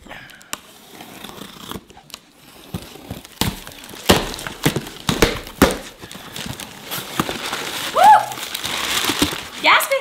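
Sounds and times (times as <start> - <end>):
cardboard and tape ripping: 0.3 - 10.0.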